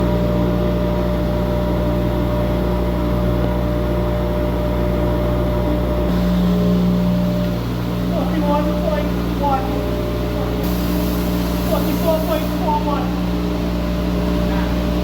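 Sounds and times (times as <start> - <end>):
wind machine droning hum: 0.0 - 15.0.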